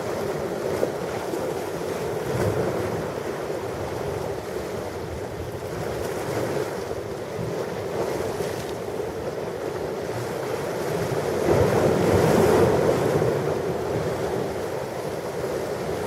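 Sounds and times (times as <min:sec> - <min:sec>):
waves washing on the shore: 0:00.0 - 0:16.0.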